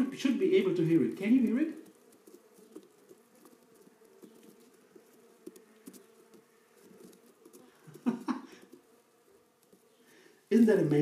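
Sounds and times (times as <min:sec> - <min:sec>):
fruit flies buzzing in jar: 0:00.0 - 0:11.0.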